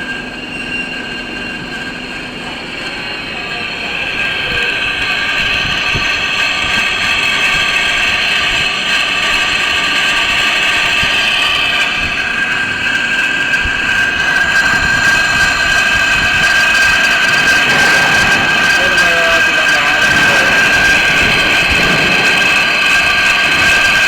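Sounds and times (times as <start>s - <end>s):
cutting tool whine on steel: 0.0s - 24.0s
lathe running: 0.0s - 24.0s.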